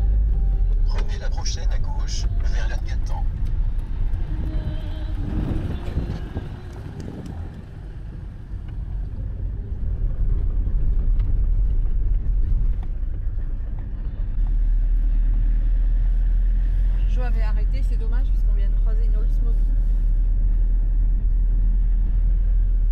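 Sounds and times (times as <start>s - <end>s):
engine and road rumble: 0.0s - 22.9s.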